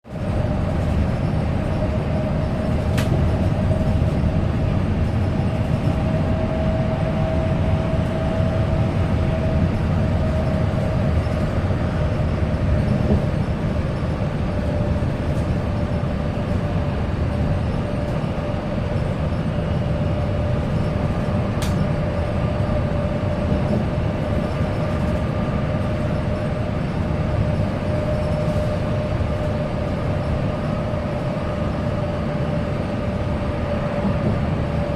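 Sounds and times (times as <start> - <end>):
bus engine and road rumble: 0.0 - 34.9.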